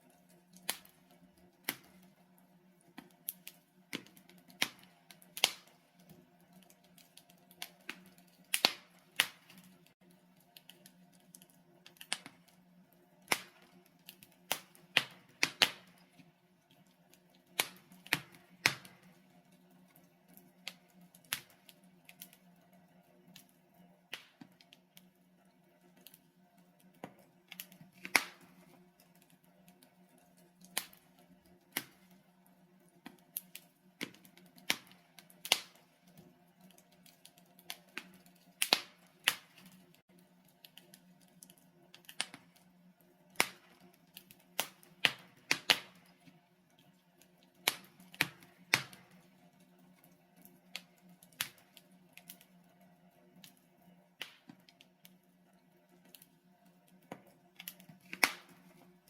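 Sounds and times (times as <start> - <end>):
log fire crackling: 0.0 - 59.0
fire pops and snaps: 0.3 - 2.2, 2.8 - 22.5, 23.3 - 25.1, 25.9 - 32.2, 33.0 - 49.3, 50.0 - 52.6, 53.4 - 55.2, 56.0 - 59.0.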